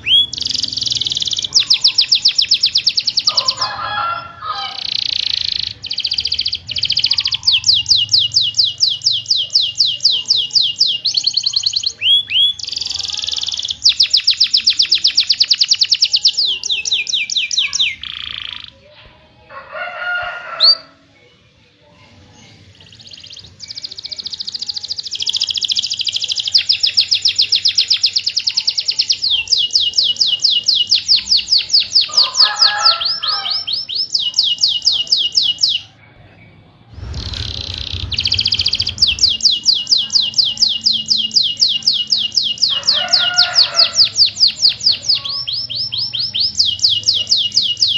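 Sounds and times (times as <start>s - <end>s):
canary singing trills: 0.0s - 18.9s, 20.0s - 20.9s, 22.0s - 36.6s, 37.3s - 47.9s.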